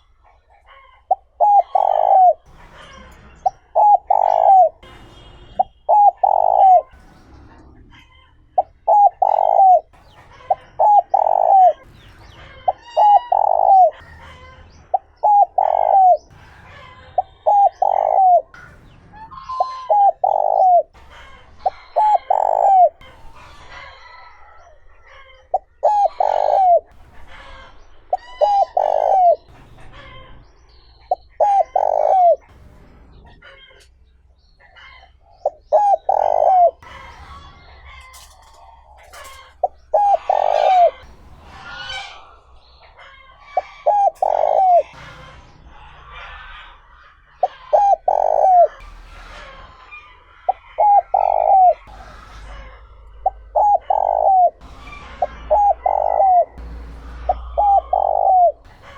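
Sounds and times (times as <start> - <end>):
dove cooing: 0.0 - 14.3, 14.9 - 16.4, 17.2 - 30.3, 31.0 - 32.6, 34.8 - 45.1, 45.7 - 58.9
small birds chirping faintly: 0.0 - 58.9.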